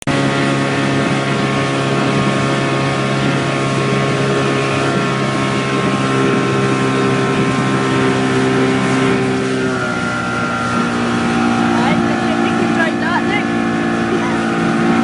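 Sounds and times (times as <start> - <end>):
speedboat engine running: 0.0 - 15.0
water and wind hiss: 0.2 - 15.0.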